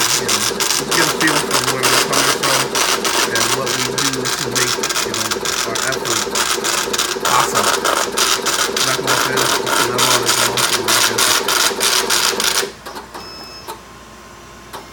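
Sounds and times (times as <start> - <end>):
braille embosser clattering: 0.0 - 12.7.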